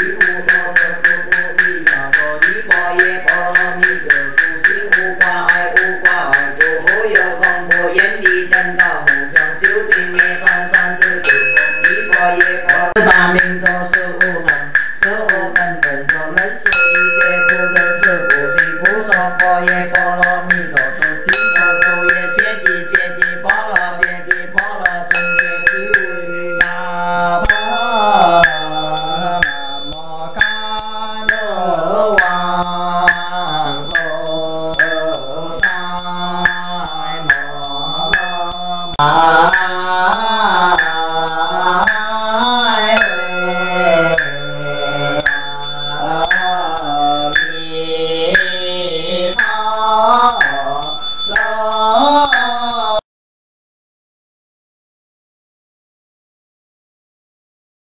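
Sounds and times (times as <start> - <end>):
regular knocking beat: 0.0 - 53.0
voices chanting: 0.0 - 53.0.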